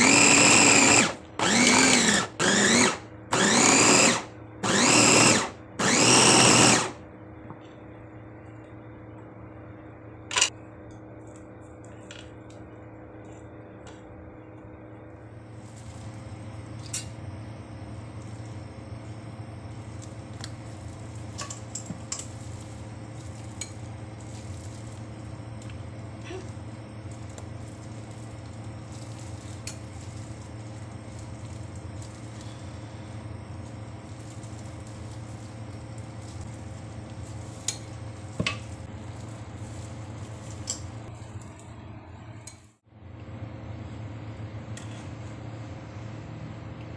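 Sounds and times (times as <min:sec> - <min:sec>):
steady low hum: 0:07.0 - 0:46.9.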